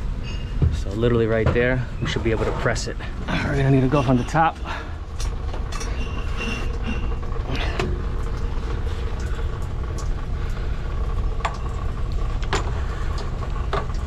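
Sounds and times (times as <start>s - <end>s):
machinery droning: 0.0s - 14.0s.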